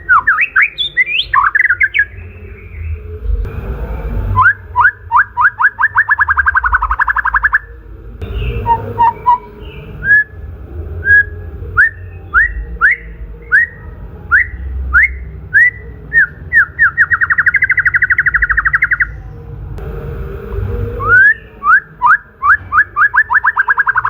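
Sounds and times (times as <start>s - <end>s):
bird singing whistled notes and trills: 0.0s - 3.5s, 4.3s - 19.6s, 21.0s - 24.0s.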